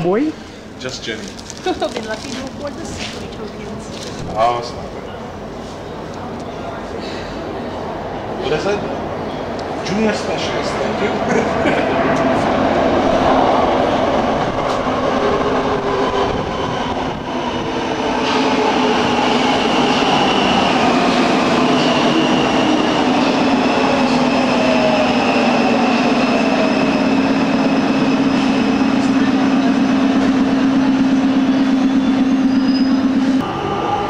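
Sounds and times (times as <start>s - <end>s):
metro train rumble and whine: 0.0s - 34.0s.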